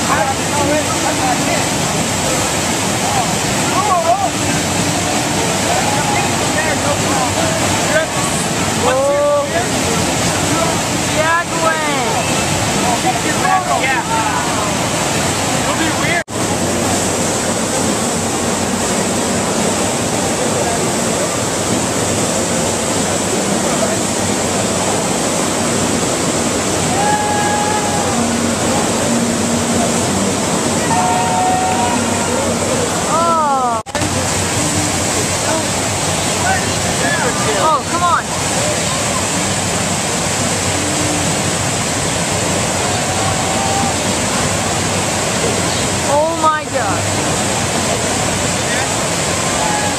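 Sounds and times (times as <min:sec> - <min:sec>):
water rushing: 0:00.0 - 0:49.9.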